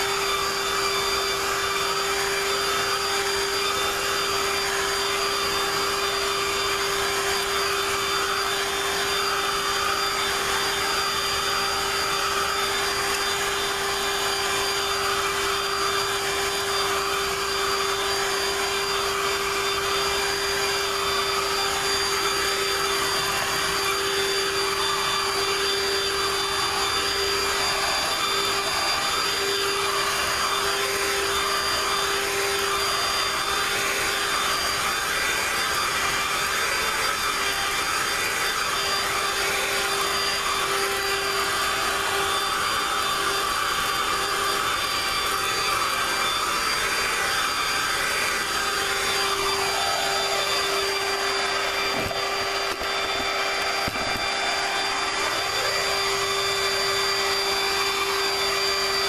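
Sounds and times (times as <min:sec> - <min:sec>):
handheld vacuum on carpet: 0:00.0 - 0:59.0.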